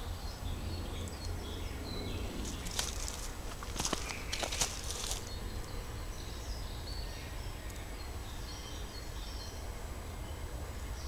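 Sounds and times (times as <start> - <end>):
faint birdsong: 0.0 - 11.0
low wind rumble on microphone: 0.0 - 11.0.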